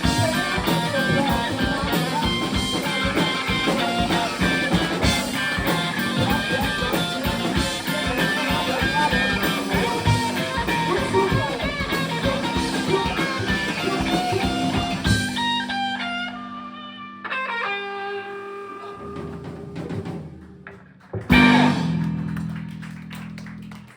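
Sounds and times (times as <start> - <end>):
electric guitar chords: 0.0 - 19.1, 21.3 - 23.9
live rock band playing: 0.0 - 20.3, 21.2 - 23.9
drums: 0.0 - 23.9.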